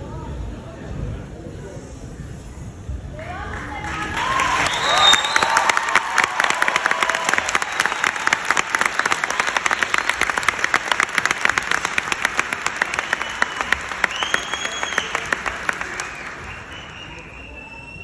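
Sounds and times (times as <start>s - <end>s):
audience applauding: 3.5s - 18.0s.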